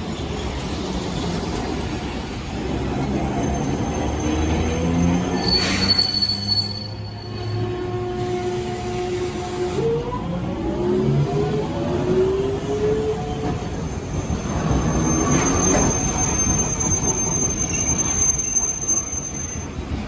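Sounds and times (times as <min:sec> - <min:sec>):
streetcar motor whine: 0:00.0 - 0:20.0
streetcar rumble: 0:00.0 - 0:20.0.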